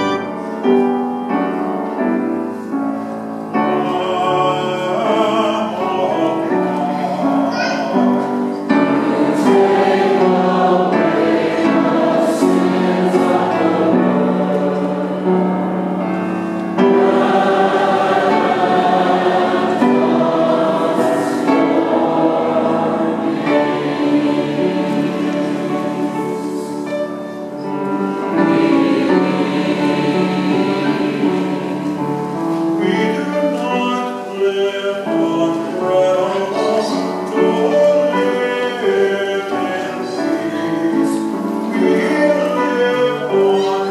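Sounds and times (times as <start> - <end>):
vocal ensemble singing worship song: 3.4 - 43.9.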